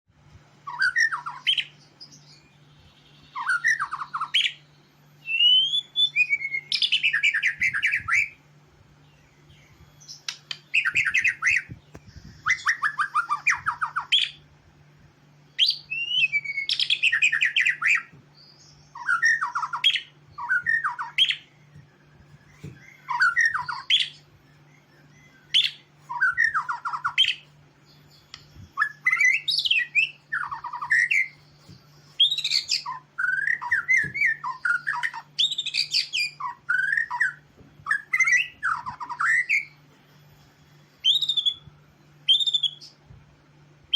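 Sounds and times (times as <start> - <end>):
faint low hum: 0.1 - 43.9
bird singing whistles and trills: 0.6 - 14.5, 15.4 - 43.0.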